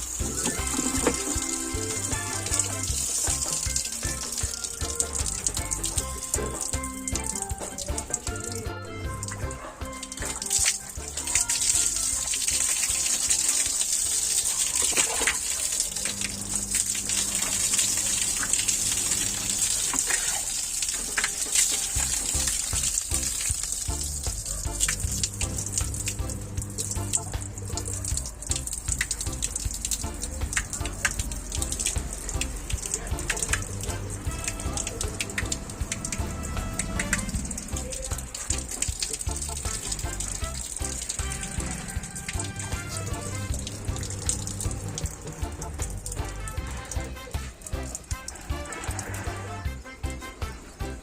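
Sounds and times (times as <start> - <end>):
water spraying with a hiss: 0.0 - 8.0, 10.0 - 49.7
background music: 0.0 - 20.0, 21.0 - 51.0.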